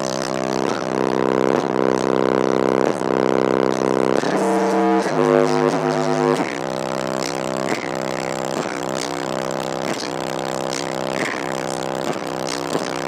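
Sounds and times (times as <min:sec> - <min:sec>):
rap music through subwoofer: 0:00.0 - 0:13.0.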